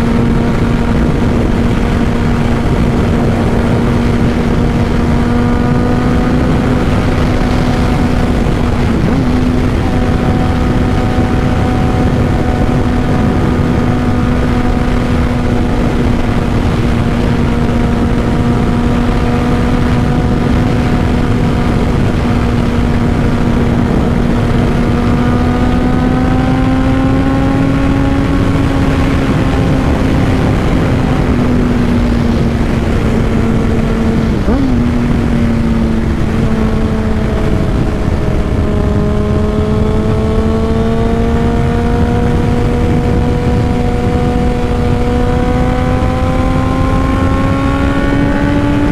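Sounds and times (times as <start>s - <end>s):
motorcycle engine cruising: 0.0s - 48.9s
wind noise: 0.0s - 48.9s.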